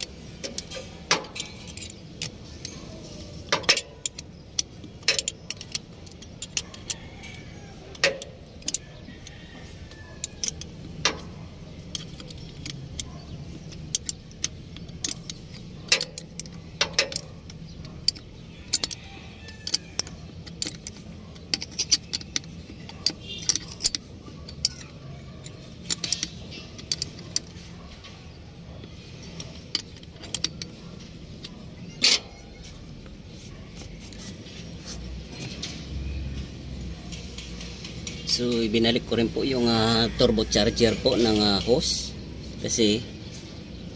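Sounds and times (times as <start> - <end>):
hand tools clinking on metal: 0.0 - 32.9, 36.9 - 43.2.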